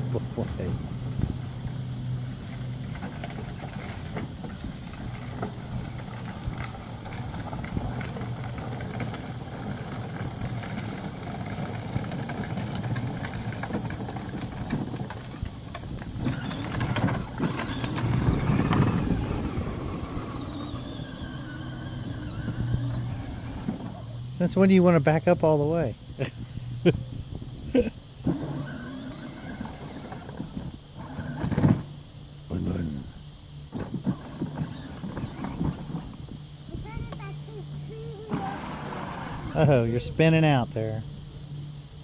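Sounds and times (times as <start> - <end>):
small electric motor humming: 0.0 - 24.7, 26.0 - 31.9, 32.5 - 40.6
plastic wheels crackling on pavement: 0.0 - 26.4, 28.2 - 33.0, 33.6 - 40.1.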